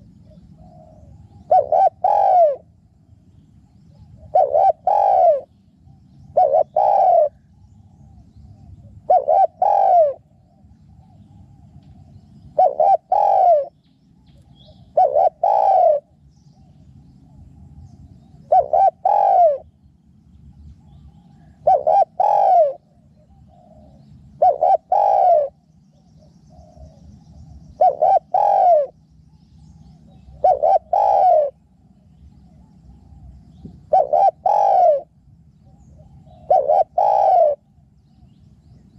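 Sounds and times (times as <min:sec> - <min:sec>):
dove cooing: 0:00.0 - 0:02.7, 0:03.6 - 0:19.7, 0:20.5 - 0:38.4
faint low rumble: 0:00.0 - 0:38.9.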